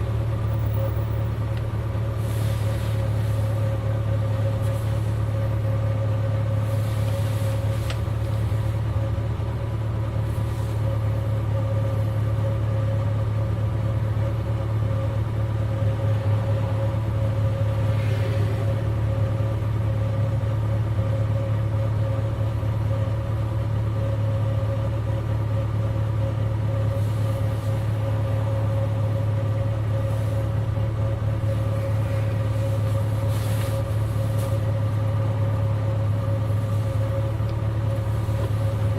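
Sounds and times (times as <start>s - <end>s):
car engine running steadily: 0.0s - 38.9s.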